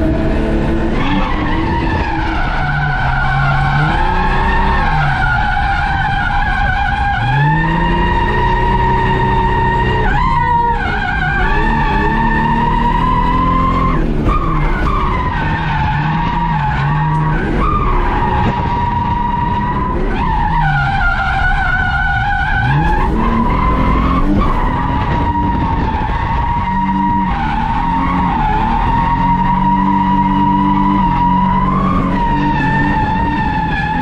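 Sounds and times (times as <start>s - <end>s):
car engine revving: 0.0s - 34.0s
tyre squeal: 0.8s - 34.0s.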